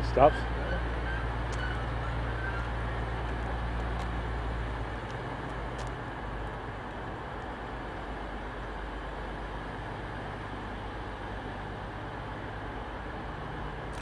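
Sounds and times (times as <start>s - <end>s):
diesel train engine humming: 0.0s - 14.0s
station background noise: 0.0s - 14.0s.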